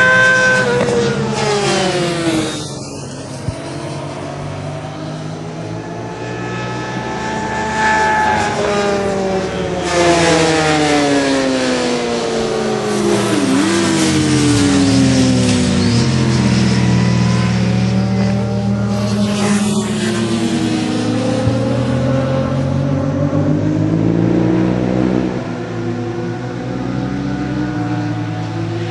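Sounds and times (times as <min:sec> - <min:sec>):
racing motorcycles at high revs: 0:00.0 - 0:28.9.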